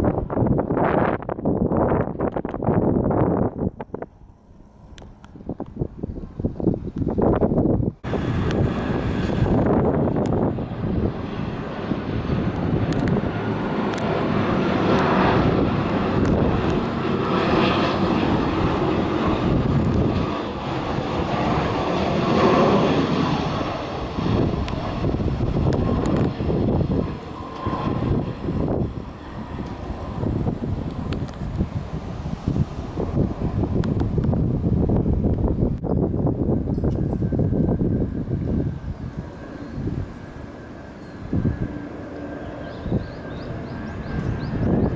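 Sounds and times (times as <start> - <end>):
aircraft flying low overhead: 0.0 - 44.9.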